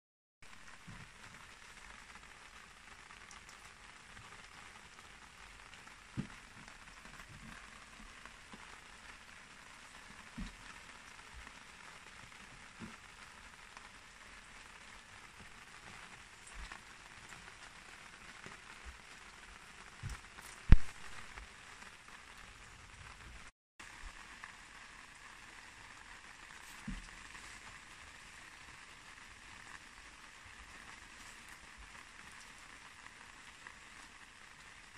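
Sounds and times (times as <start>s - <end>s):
outdoor hiss: 0.5s - 34.9s.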